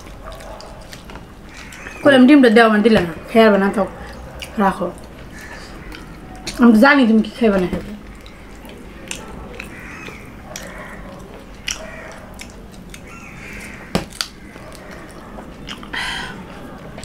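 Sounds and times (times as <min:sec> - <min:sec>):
people chewing food: 0:00.0 - 0:02.1, 0:03.0 - 0:17.0.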